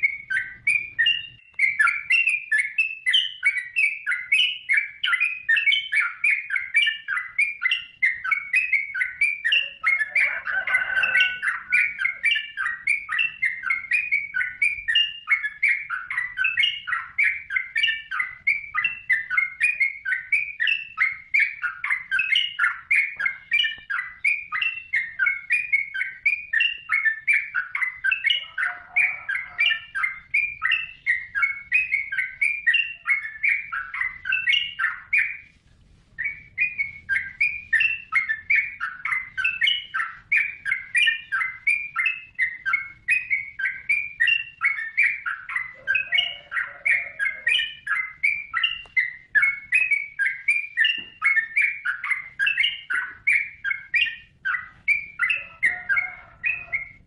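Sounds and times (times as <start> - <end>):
bird chirping rapidly: 0.0 - 57.0.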